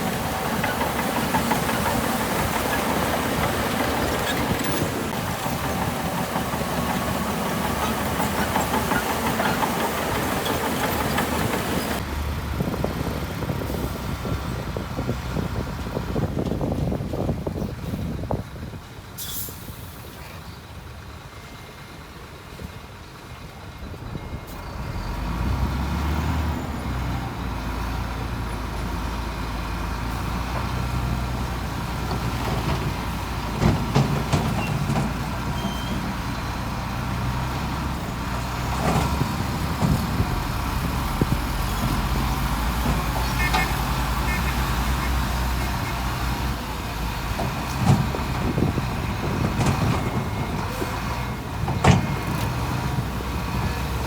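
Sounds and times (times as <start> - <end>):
heavy diesel engine running: 0.0 - 19.1, 20.6 - 54.0.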